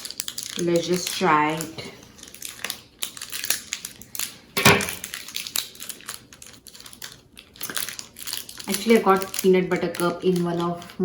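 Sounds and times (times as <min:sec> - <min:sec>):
snack wrapper crinkling: 0:00.0 - 0:11.0.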